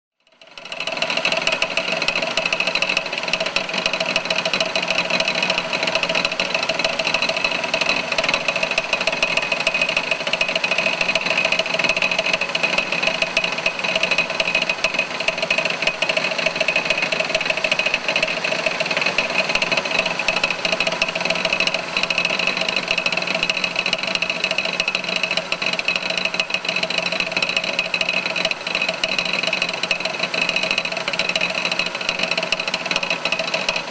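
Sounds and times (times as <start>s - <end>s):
car engine running: 0.4s - 33.9s.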